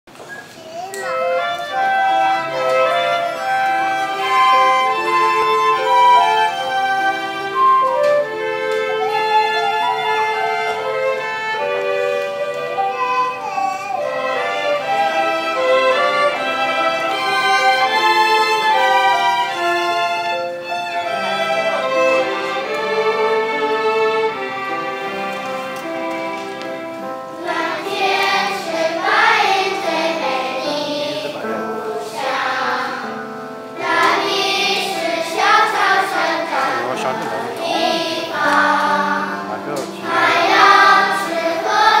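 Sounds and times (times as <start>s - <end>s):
children's choir singing: 0.6s - 42.0s
instrumental accompaniment held notes: 0.7s - 42.0s.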